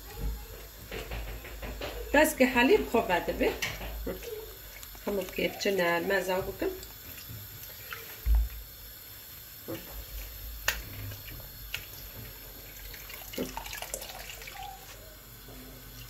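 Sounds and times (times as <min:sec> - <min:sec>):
tap water running into sink: 0:00.1 - 0:16.0.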